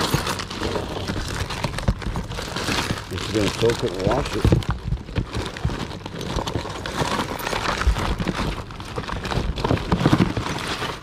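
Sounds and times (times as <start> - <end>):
hands rummaging through plastic tote: 0.0 - 11.0.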